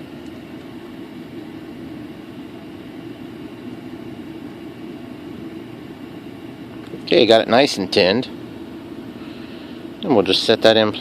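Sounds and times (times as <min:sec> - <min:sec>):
fan whirring: 0:00.0 - 0:11.0.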